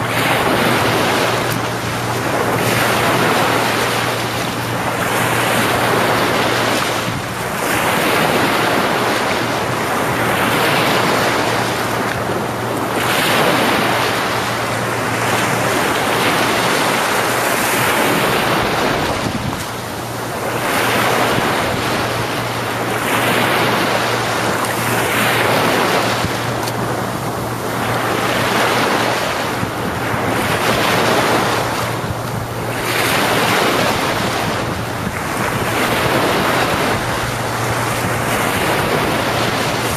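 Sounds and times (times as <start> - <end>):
waves washing onto beach: 0.0 - 39.9
wind buffeting microphone: 0.0 - 39.9.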